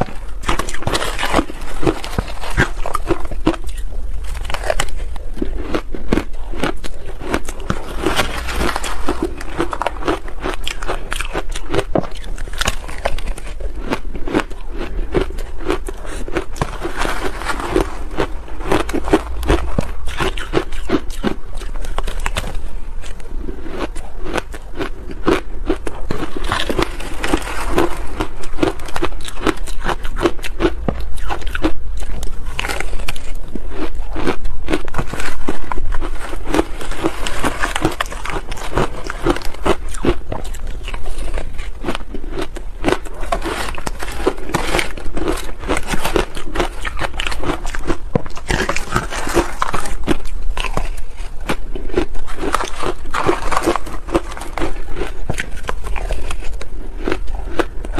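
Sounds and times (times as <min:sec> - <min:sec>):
ice crunching while chewed: 0:00.0 - 0:57.9.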